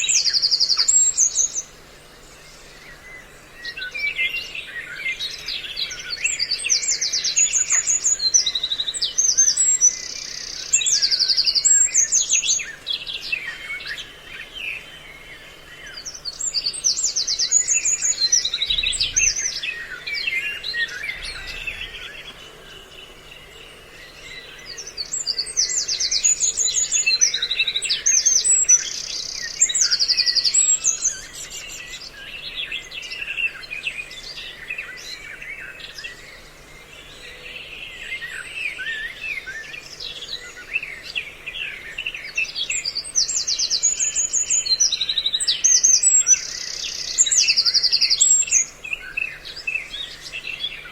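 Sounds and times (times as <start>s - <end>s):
recorded bird trills and chirps: 0.0s - 50.9s.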